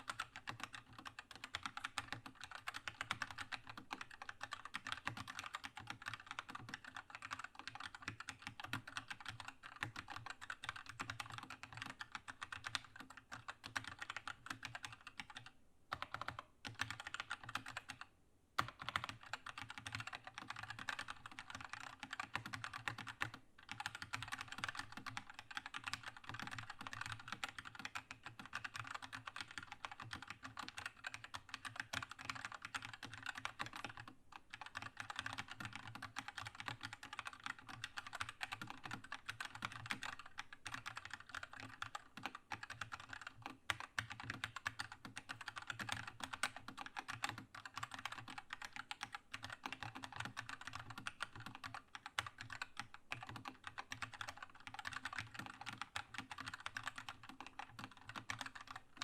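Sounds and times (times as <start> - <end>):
fast mechanical keyboard typing: 0.0 - 59.0.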